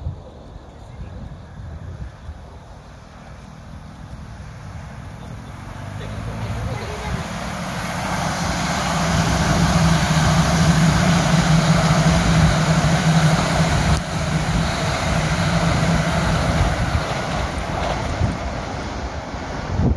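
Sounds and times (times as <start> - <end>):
high-speed train passing: 0.0 - 19.9.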